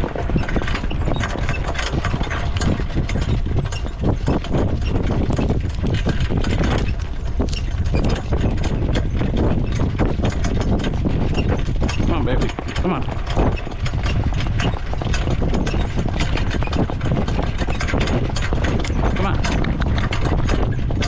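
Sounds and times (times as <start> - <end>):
horse hoofbeats at a jog: 0.0 - 21.0
steady low rumble: 0.0 - 21.0.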